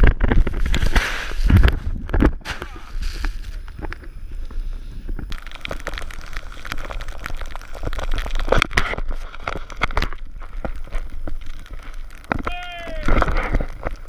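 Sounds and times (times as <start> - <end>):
powder snow spraying crackle: 0.4 - 1.8, 2.4 - 14.0.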